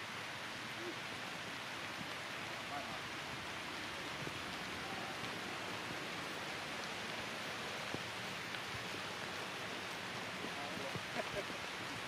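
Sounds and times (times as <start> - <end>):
light rain on foliage: 0.0 - 12.0.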